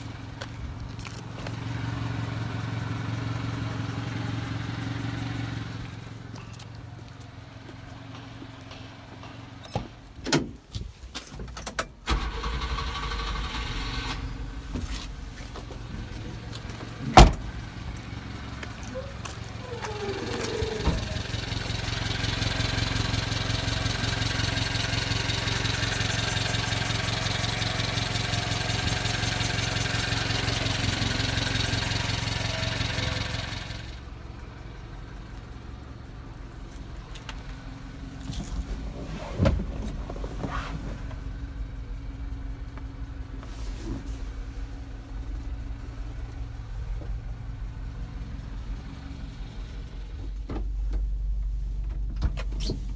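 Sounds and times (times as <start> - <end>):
small engine idling: 0.0 - 9.6, 12.1 - 39.2, 39.9 - 51.8.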